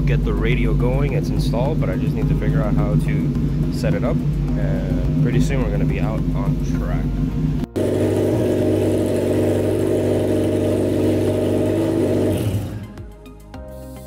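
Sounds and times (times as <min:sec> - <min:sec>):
car engine running: 0:00.0 - 0:13.1.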